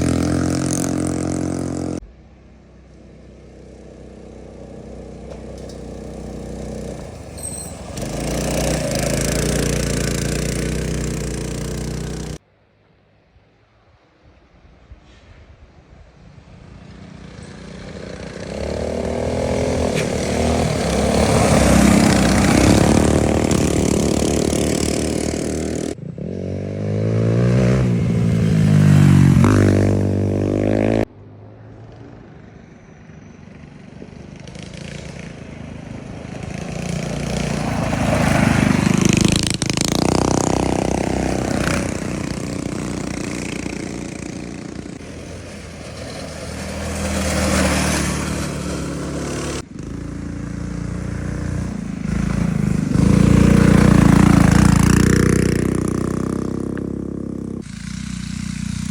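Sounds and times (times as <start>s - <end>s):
engine revving: 0.0s - 2.0s, 3.5s - 12.4s, 17.1s - 31.1s, 34.2s - 58.9s
minibike engine passing: 0.0s - 12.4s, 16.0s - 58.9s.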